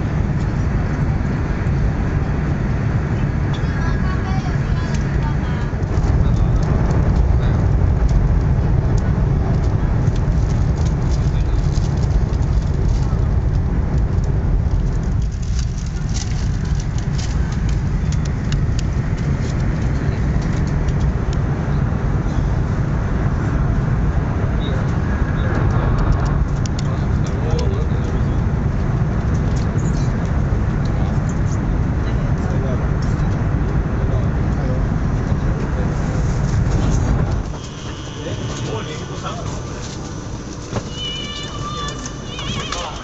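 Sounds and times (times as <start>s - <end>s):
train cabin low rumble: 0.0s - 43.0s.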